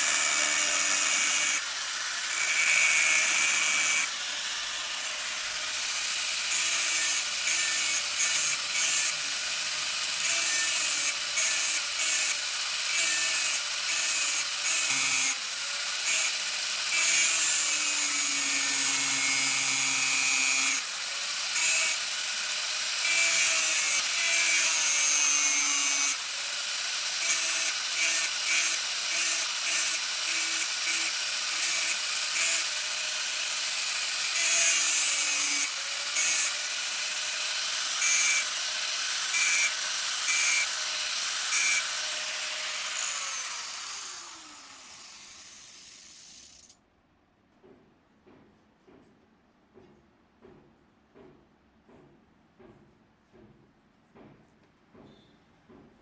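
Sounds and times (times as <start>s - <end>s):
electric power tool running: 0.0s - 46.8s.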